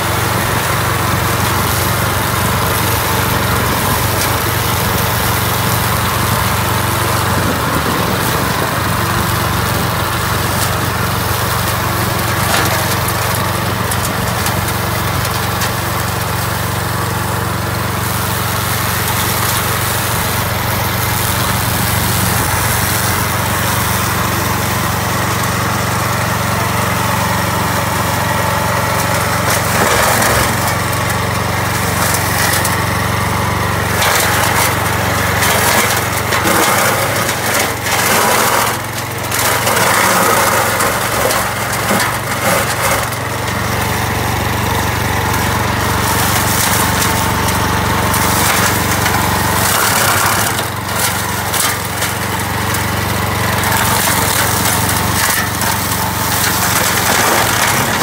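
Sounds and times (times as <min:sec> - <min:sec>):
petrol engine running under load: 0:00.0 - 0:58.0.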